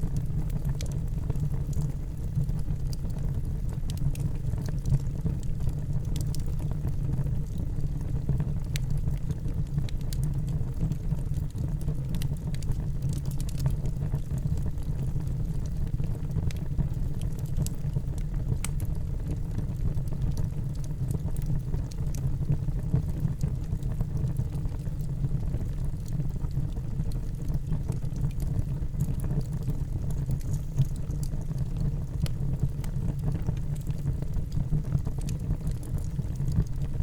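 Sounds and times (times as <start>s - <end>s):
fire crackling in fireplace: 0.0s - 37.0s.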